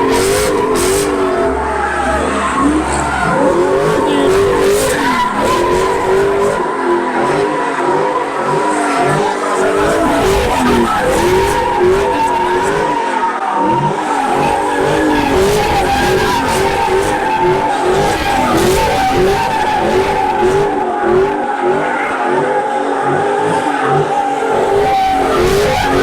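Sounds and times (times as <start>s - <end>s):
car engine revving: 0.0s - 26.0s
tyres squealing: 0.0s - 26.0s.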